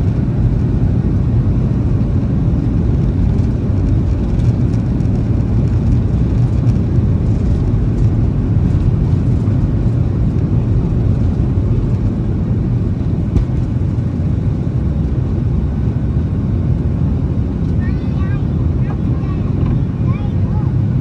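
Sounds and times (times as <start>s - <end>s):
jet engine cabin roar: 0.0s - 21.0s.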